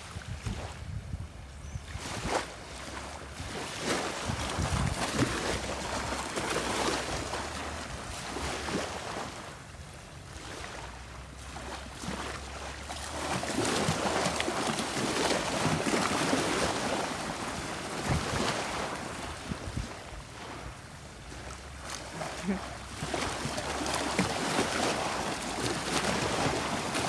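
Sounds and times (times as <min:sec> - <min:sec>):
small waves lapping on beach: 0:00.0 - 0:01.1, 0:01.7 - 0:27.0
wind rumbling on microphone: 0:00.0 - 0:27.0.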